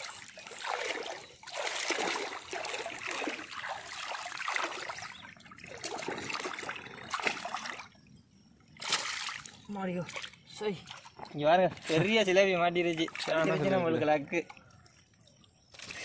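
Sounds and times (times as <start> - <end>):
water splashing and dripping: 0.0 - 15.9.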